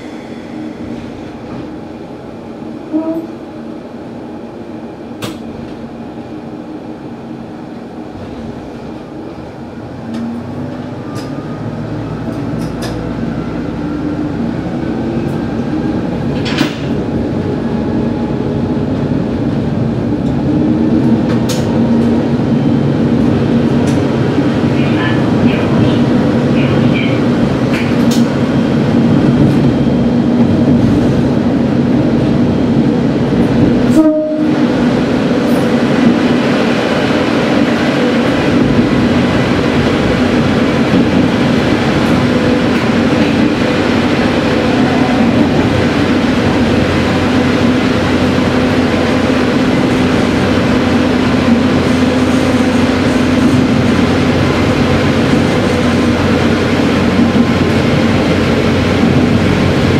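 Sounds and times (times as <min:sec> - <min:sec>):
diesel engine drone: 0:00.0 - 0:59.9
wheel-on-rail rumble in tunnel: 0:00.0 - 0:59.9.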